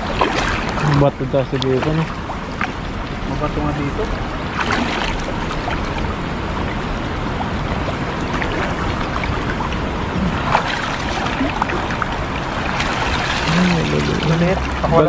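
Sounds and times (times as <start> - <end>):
river current rushing: 0.0 - 15.0
water splashing: 0.0 - 15.0.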